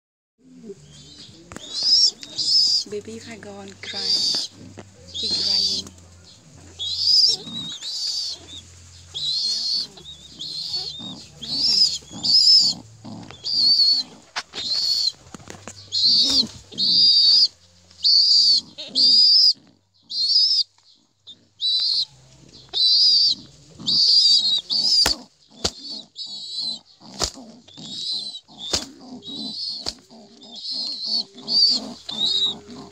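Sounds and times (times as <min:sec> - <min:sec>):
pigeon squabs squeaking: 0:00.8 - 0:32.9.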